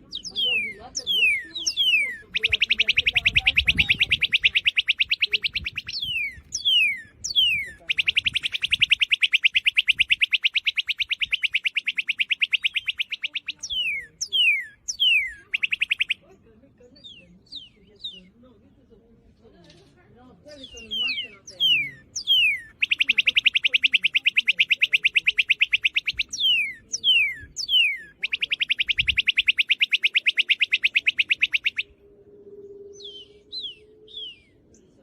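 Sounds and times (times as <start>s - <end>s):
bird whistling and trilling: 0.0s - 16.2s, 20.6s - 32.0s, 32.6s - 34.9s.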